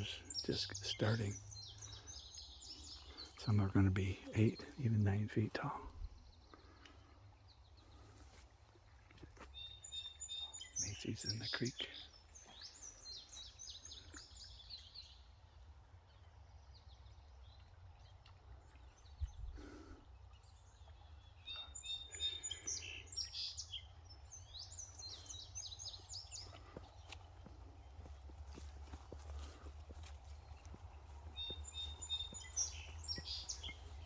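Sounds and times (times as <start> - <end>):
small songbirds chirping: 0.0 - 34.0.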